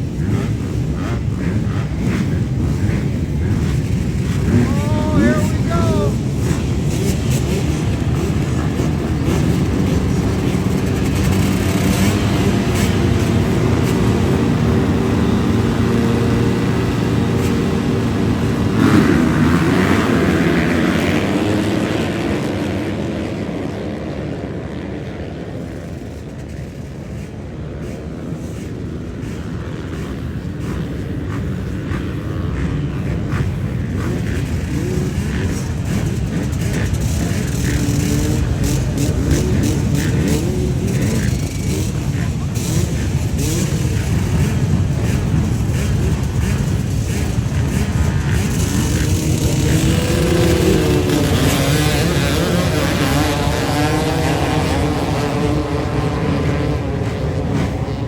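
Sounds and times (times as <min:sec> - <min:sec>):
dirt bike engines racing: 0:00.0 - 0:58.0.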